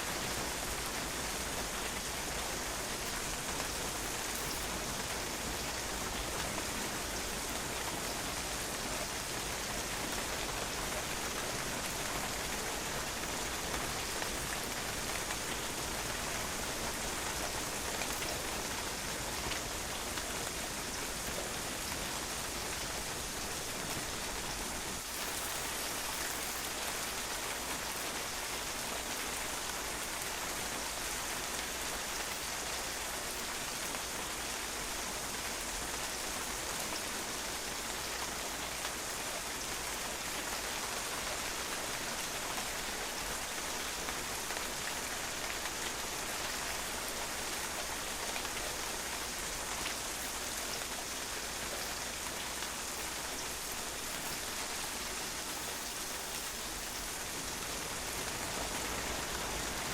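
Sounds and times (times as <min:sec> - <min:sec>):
rain spattering on a patio: 0:00.0 - 0:59.9.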